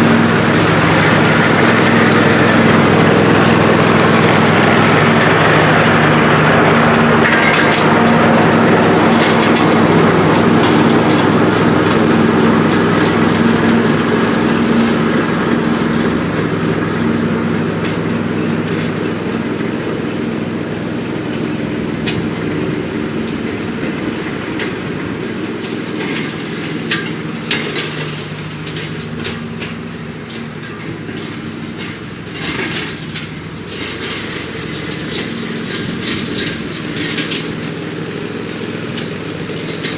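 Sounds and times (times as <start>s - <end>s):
ride-on mower engine cutting grass: 0.0s - 39.9s.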